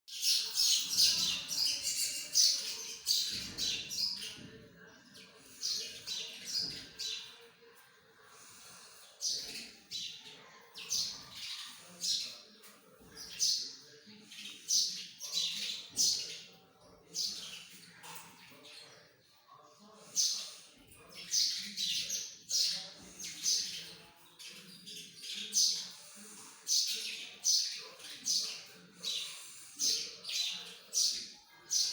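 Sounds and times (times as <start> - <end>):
birds chirping and squawking: 0.1 - 31.9.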